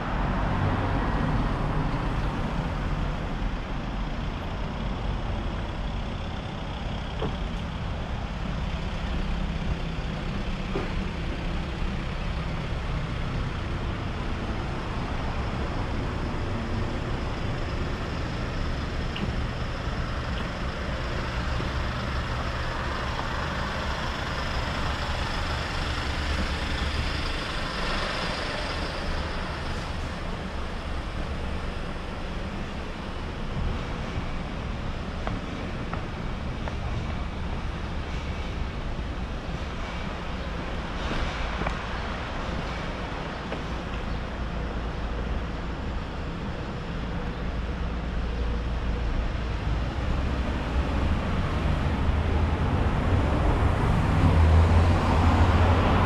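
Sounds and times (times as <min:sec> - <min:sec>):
low engine rumble: 0:00.0 - 0:56.0
passing vehicles: 0:00.0 - 0:56.0.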